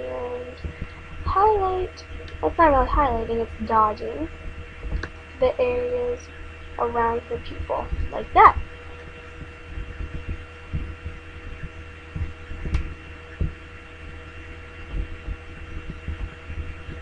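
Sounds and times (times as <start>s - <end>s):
electrical hum and whine: 0.0s - 17.0s
soft low thumps: 0.6s - 17.0s.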